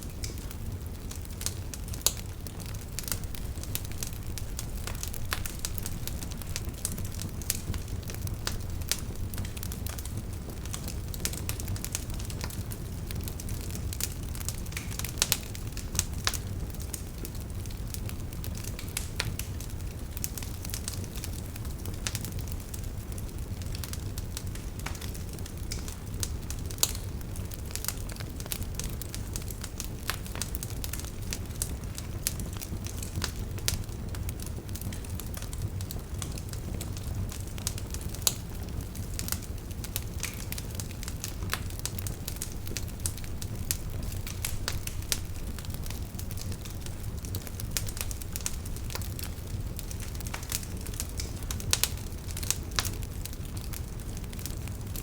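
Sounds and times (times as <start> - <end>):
embers crackling and popping: 0.0 - 55.0
fire flames rumbling: 0.0 - 55.0.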